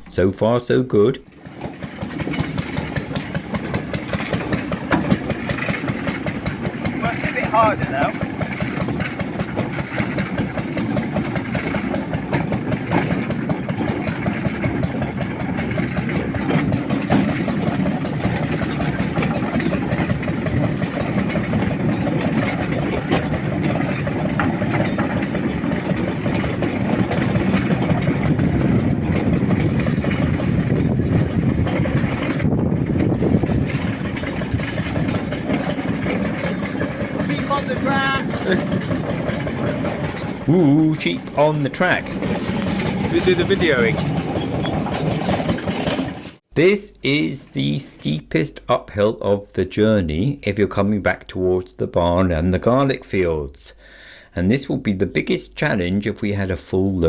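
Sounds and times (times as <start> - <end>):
engine chugging: 0.0 - 57.0.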